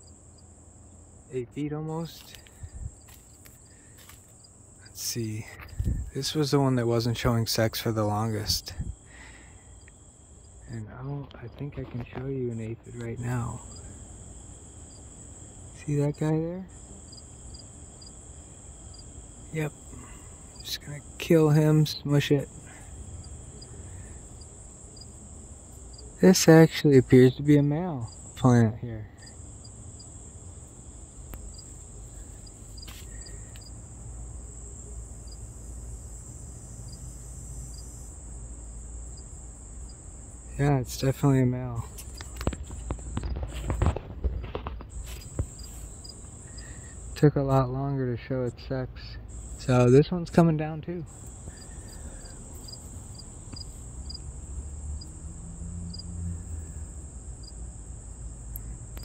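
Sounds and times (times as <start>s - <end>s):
high-pitched insect trill: 0.0s - 11.8s, 12.8s - 47.7s, 49.2s - 50.4s, 51.1s - 59.0s
soft insect chirp: 0.0s - 59.0s.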